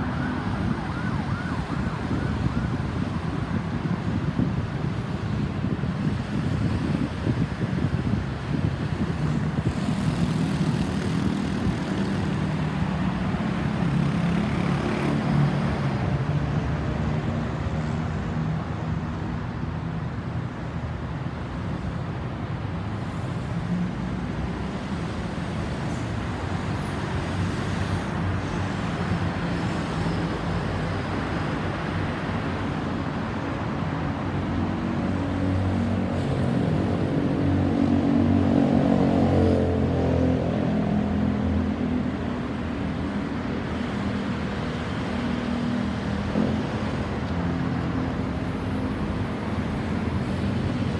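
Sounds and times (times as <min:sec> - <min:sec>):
road traffic: 0:00.0 - 0:50.9.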